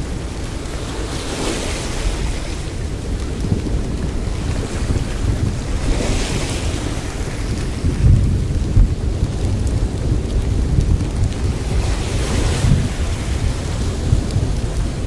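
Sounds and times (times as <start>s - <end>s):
deep rumbling noise: 0.0s - 15.0s.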